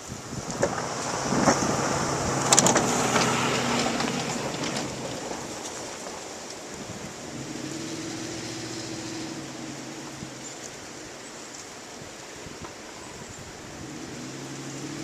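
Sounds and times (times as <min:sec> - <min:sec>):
truck engine hum: 0:00.0 - 0:12.1, 0:13.4 - 0:15.0
snow plow scraping snow: 0:00.0 - 0:15.0.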